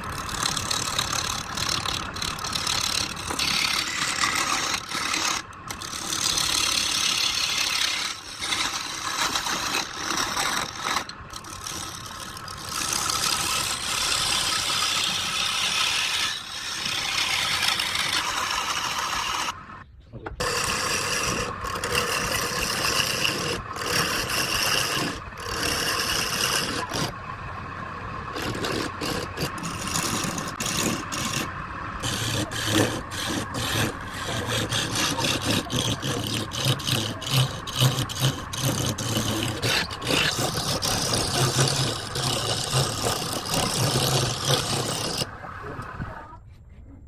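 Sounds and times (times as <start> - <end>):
lathe tool scraping wood: 0.0 - 19.8, 20.4 - 45.9
low motor hum: 0.0 - 47.0.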